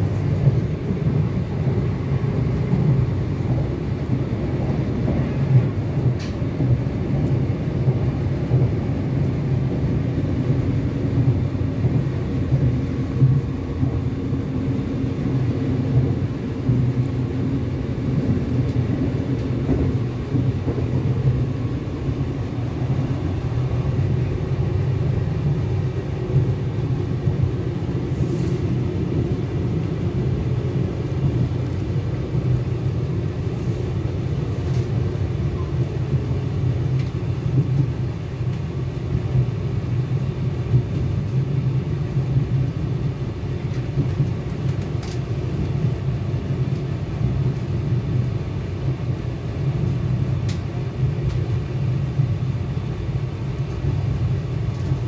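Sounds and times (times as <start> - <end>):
train interior rumble: 0.0 - 55.0.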